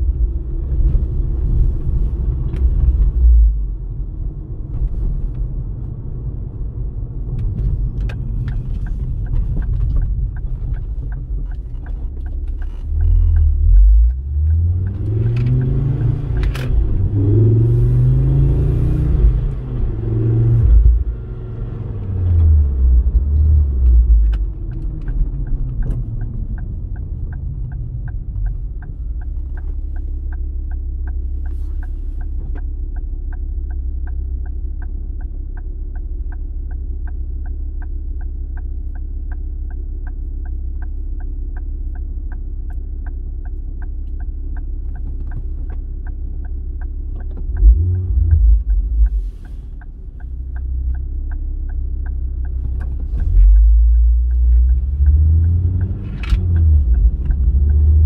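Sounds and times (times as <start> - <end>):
car engine rumbling: 0.0 - 58.0
turn signal indicator ticking: 5.3 - 58.0.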